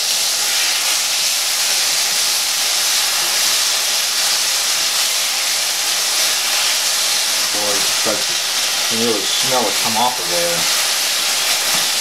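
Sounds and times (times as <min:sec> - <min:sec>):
chicken wings sizzling in a pan: 0:00.0 - 0:12.0.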